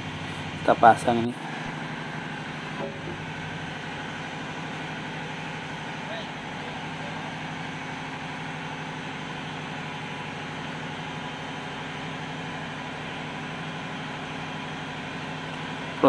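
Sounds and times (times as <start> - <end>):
engine room machinery drone: 0.0 - 16.0.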